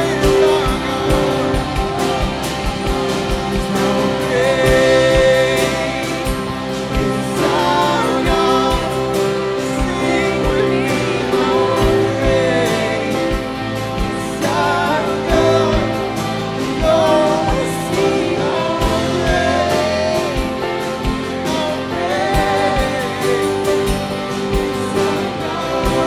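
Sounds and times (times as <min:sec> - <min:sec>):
sung vocals: 0:00.0 - 0:26.0
worship band playing: 0:00.0 - 0:26.0.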